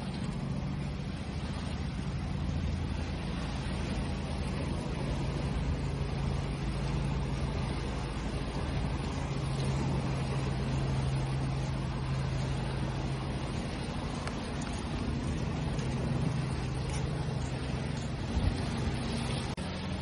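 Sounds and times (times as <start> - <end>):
low motor-like hum: 0.0 - 20.0
sea waves washing: 0.0 - 20.0.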